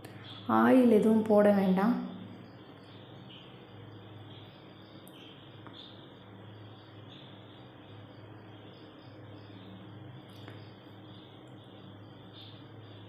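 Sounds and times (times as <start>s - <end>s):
soft high chirps: 0.0s - 13.0s.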